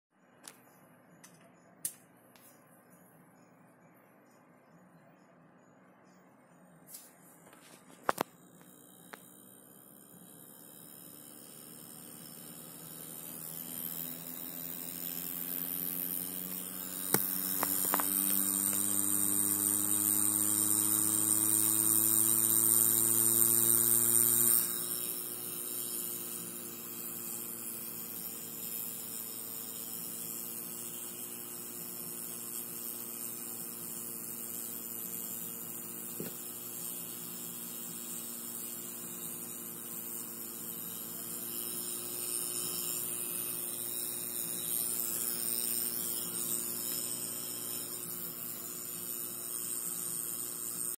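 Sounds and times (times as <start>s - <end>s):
hard drive humming: 0.2s - 50.9s.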